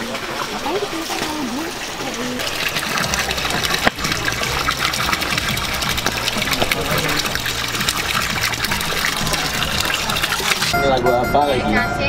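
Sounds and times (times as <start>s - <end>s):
water splashing into stone pool: 0.0s - 10.8s.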